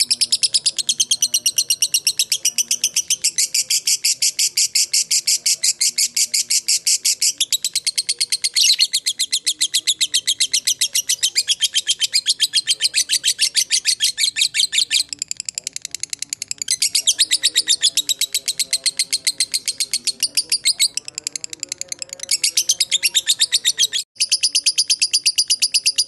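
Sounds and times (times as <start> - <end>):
lovebird chattering trill: 0.0 - 26.0.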